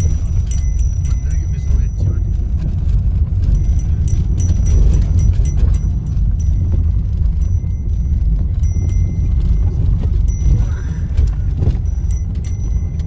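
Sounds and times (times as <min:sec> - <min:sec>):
rattles and knocks over bumps: 0:00.0 - 0:13.0
vehicle engine and tyre rumble: 0:00.0 - 0:13.0.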